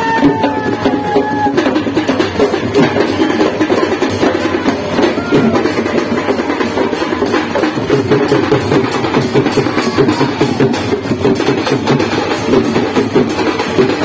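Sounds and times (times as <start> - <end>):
barrel drums beaten fast: 0.0 - 14.0.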